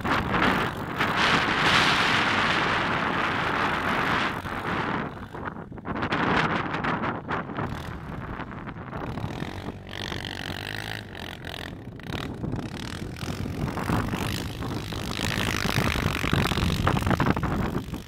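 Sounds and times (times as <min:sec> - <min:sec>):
quad engine revving: 0:00.0 - 0:18.0
wind buffeting microphone: 0:00.0 - 0:18.0.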